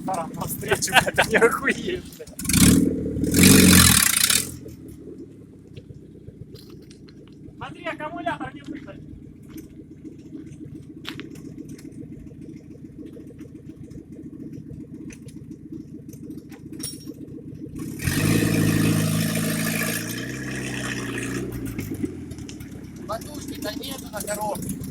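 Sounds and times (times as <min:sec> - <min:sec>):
engine rumbling and revving: 0:00.0 - 0:24.9.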